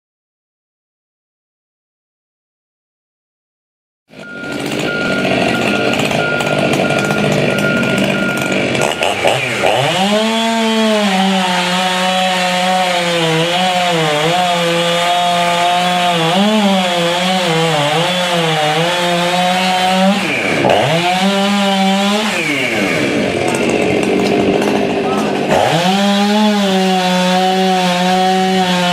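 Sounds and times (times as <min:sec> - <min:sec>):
chainsaw cutting wood: 0:04.1 - 0:28.9.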